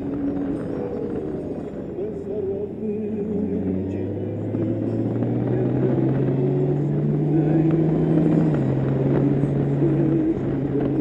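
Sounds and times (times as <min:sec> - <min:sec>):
motorcycle engine accelerating: 0:00.0 - 0:11.0
road and wind noise: 0:00.0 - 0:11.0.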